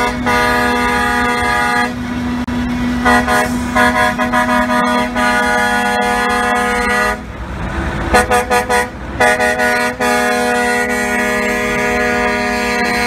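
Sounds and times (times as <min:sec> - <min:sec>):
vehicle horn honking: 0:00.0 - 0:02.0, 0:03.0 - 0:07.2, 0:08.2 - 0:13.0.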